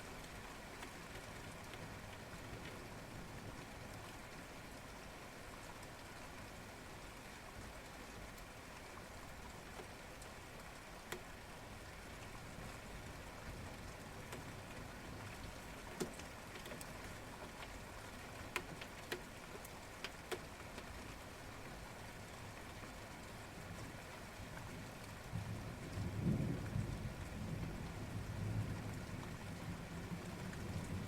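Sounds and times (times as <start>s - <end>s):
light rain patter: 0.0s - 31.0s.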